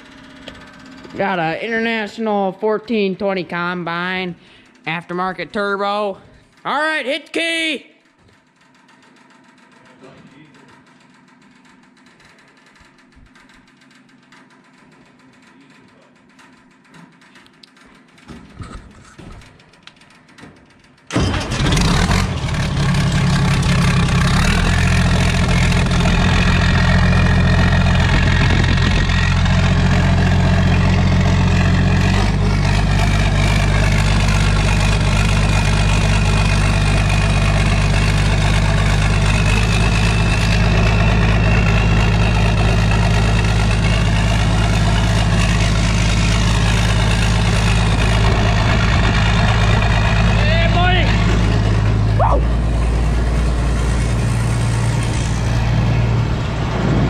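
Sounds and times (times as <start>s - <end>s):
diesel engine starting and running: 0.0s - 57.0s.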